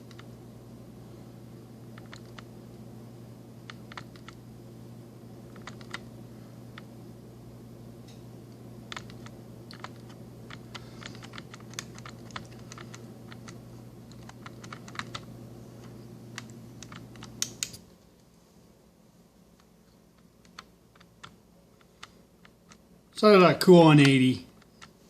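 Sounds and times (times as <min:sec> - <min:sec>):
air conditioner humming: 0:00.0 - 0:25.0.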